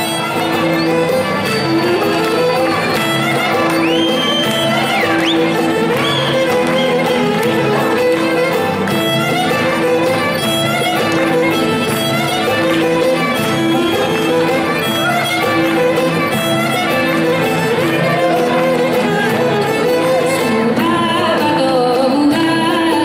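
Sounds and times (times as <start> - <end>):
plucked lutes: 0.0 - 23.0
violin melody: 0.0 - 23.0.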